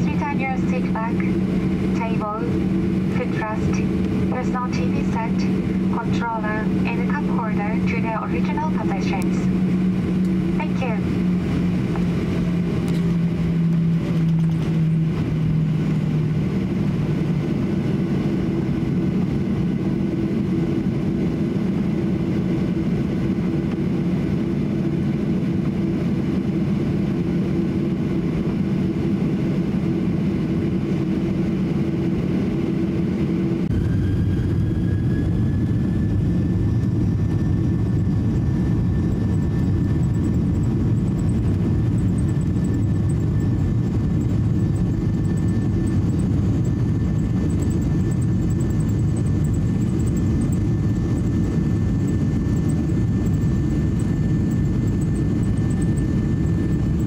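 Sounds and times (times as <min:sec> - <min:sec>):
high engine whine: 0:00.0 - 0:57.0
jet engines from inside cabin: 0:00.0 - 0:57.0.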